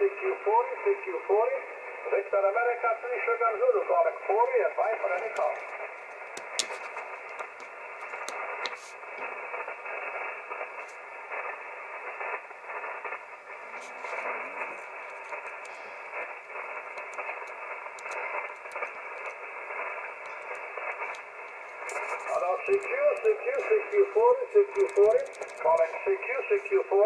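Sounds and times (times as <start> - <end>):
faint radio signals: 0.0 - 27.0
radio band noise hiss: 0.0 - 27.0
radio crackles: 0.0 - 27.0.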